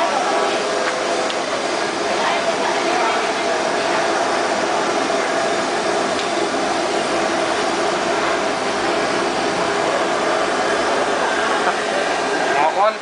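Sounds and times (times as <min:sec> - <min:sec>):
traffic engine hum: 0:00.3 - 0:13.0.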